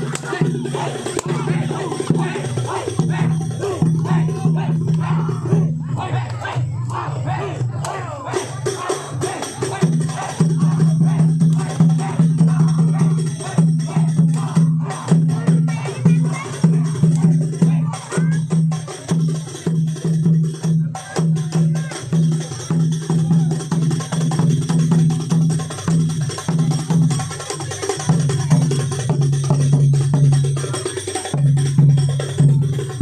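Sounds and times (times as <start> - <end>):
low drum beat: 0.0 - 27.2
knocking and jingling percussion: 0.0 - 33.0.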